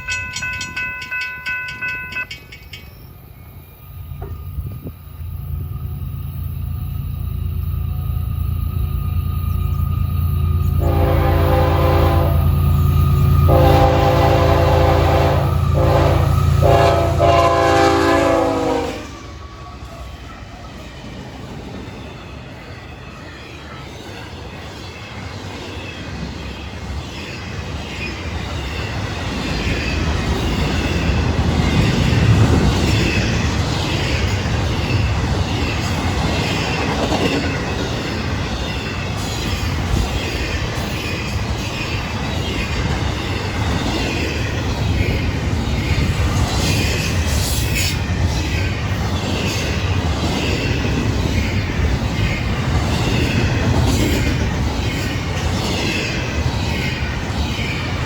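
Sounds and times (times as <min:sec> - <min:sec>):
diesel locomotives passing: 0:00.0 - 0:58.0
train rumble and wheel clatter: 0:00.0 - 0:58.0.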